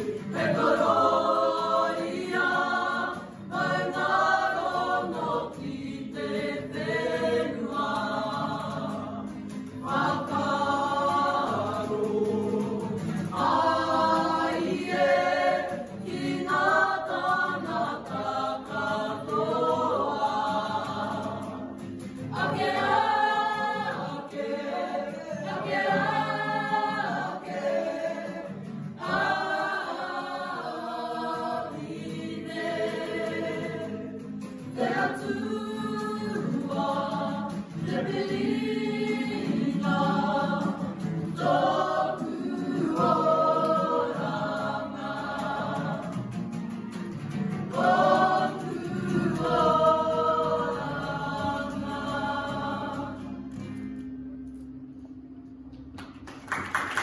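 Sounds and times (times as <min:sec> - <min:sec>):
group singing in harmony: 0:00.0 - 0:53.7.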